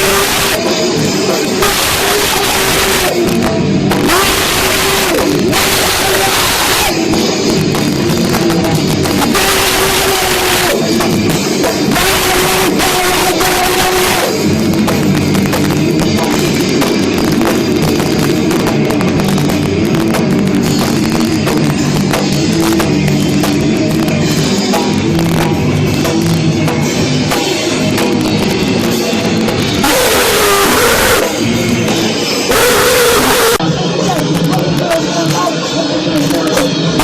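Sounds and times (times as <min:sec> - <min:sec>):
distorted guitar: 0:00.0 - 0:37.0
pounding drums: 0:00.0 - 0:37.0
punk band playing: 0:00.0 - 0:37.0.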